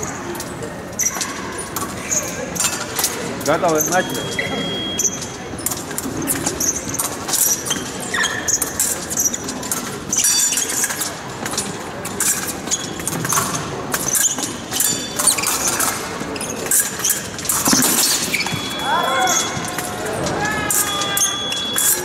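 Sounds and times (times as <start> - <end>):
fencing blades clinking and scraping: 0.4 - 22.0.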